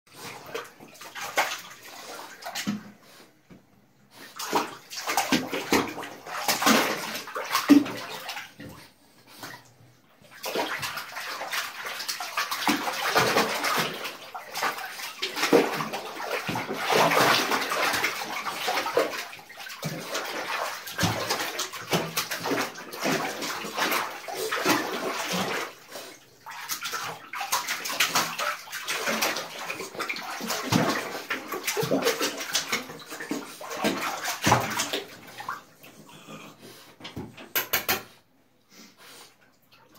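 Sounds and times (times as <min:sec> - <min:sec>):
bathwater sloshing and splashing: 0:00.1 - 0:39.9.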